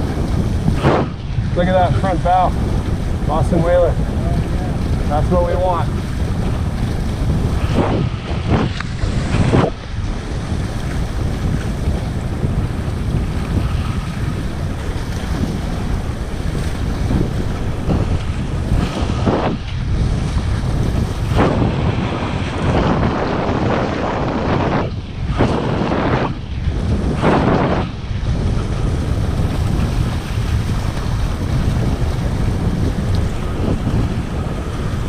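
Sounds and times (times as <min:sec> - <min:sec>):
water spray along hull: 0:00.0 - 0:35.0
wind buffeting microphone: 0:00.0 - 0:35.0.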